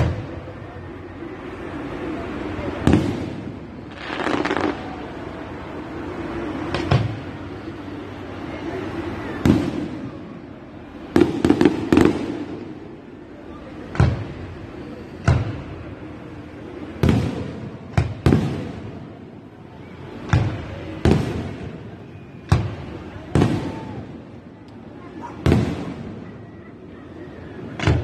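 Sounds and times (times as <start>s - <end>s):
fireworks bangs with echo: 0.0s - 1.0s, 1.9s - 7.8s, 8.8s - 28.0s.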